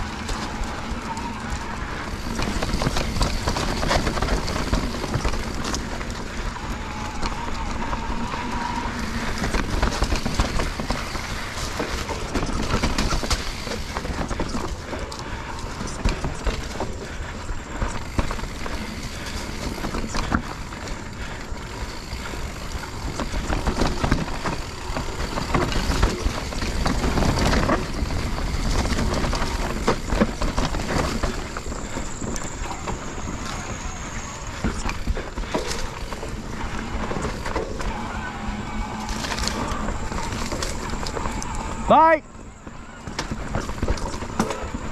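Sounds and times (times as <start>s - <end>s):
bike knocking and rattling: 0.0s - 44.9s
bike tyre riding noise: 0.0s - 44.9s.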